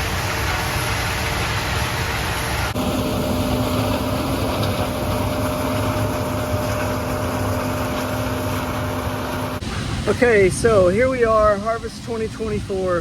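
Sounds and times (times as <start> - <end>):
farm machinery rumbling: 0.0 - 11.8.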